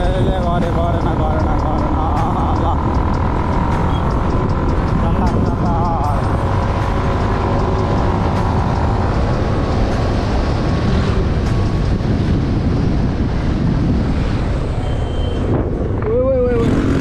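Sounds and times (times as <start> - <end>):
motorcycle engine running: 0.0 - 14.0
wind rushing over microphone: 3.0 - 17.0.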